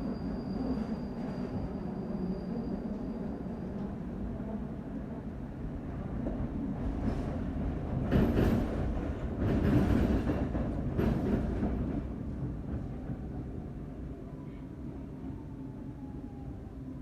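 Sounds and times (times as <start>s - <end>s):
metro train rumbling on rails: 0.0s - 17.0s.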